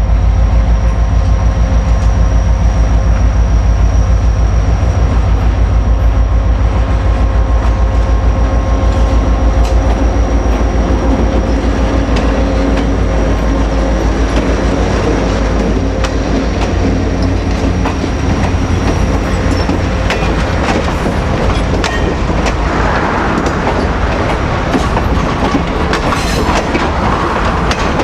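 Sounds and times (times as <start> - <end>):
diesel locomotive throbbing: 0.0 - 28.0.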